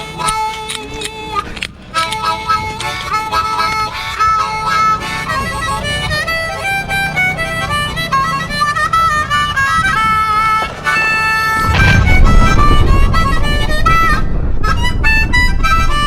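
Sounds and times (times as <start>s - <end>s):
jazz music: 0.0s - 16.0s.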